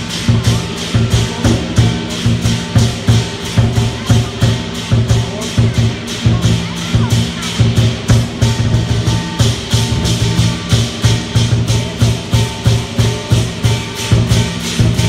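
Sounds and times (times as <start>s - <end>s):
cymbals clashing: 0.0s - 15.0s
large drum beating: 0.0s - 15.0s.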